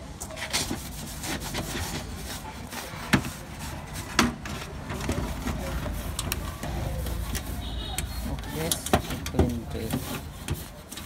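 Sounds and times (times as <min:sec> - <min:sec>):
rubbing inside metal chassis: 0:00.4 - 0:11.0.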